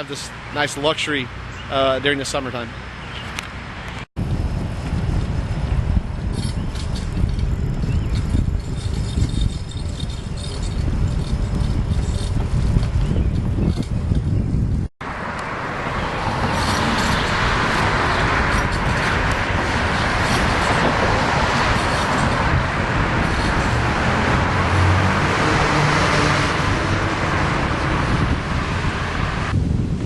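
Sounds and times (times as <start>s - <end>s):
road traffic: 0.0s - 30.0s
wind on microphone: 4.2s - 30.0s.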